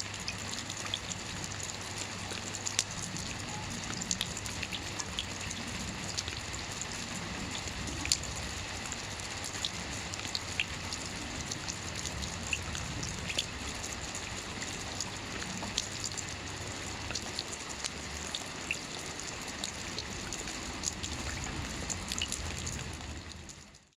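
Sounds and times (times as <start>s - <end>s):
steady rain hiss: 0.0s - 23.9s
raindrops pattering close: 0.0s - 24.0s.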